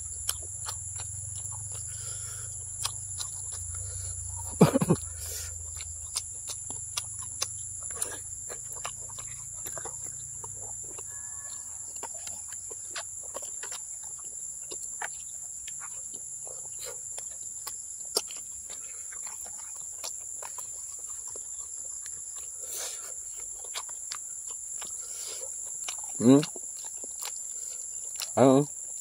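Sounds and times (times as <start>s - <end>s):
close-up chewing: 0.0s - 29.0s
insects trilling: 0.0s - 29.0s.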